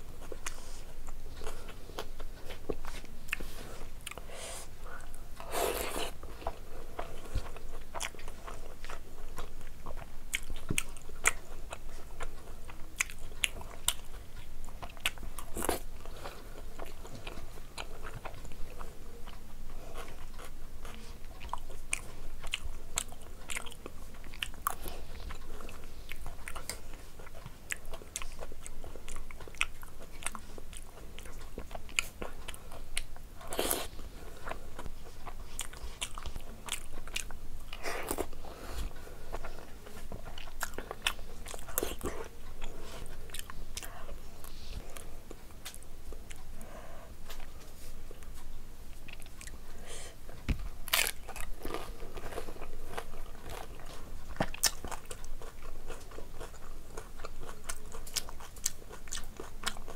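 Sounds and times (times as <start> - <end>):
crunchy food being chewed: 0.0 - 59.9.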